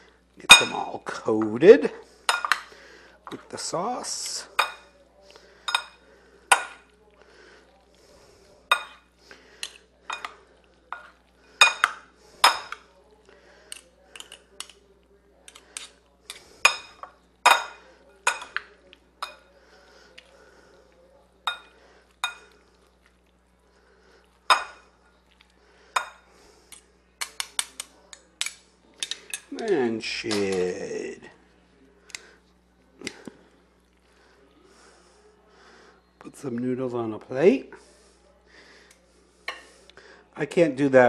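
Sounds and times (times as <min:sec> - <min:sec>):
noodles being stirred: 0:00.0 - 0:40.2.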